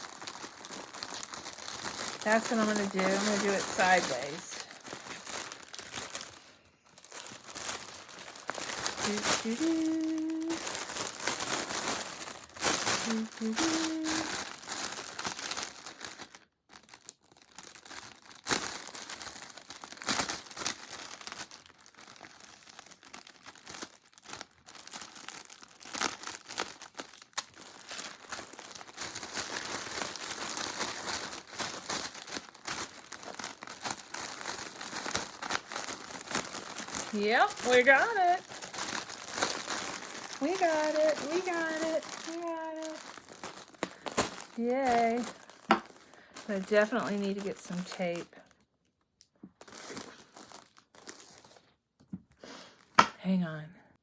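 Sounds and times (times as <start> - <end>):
bag crinkling and rustling: 0.0 - 53.1.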